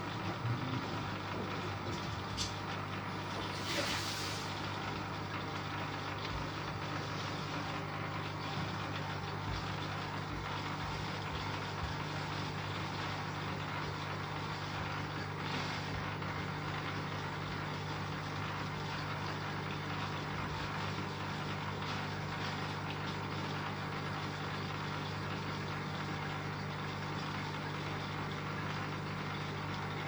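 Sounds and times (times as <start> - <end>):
washing machine running: 0.0 - 30.0.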